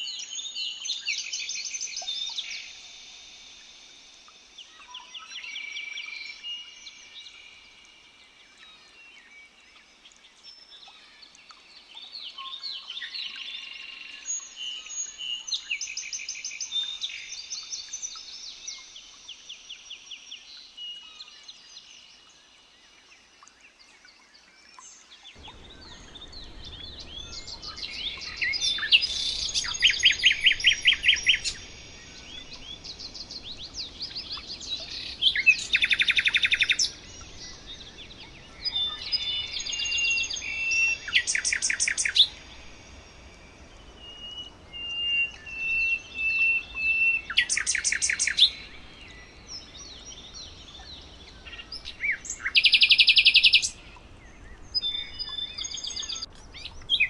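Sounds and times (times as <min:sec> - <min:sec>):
faint background hiss: 0:00.0 - 0:57.0
songbirds singing and chirping: 0:00.0 - 0:57.0.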